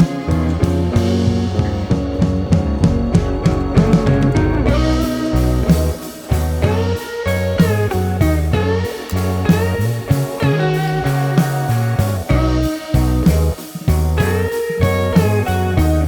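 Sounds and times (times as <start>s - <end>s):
guitar-led instrumental music: 0.0s - 16.0s.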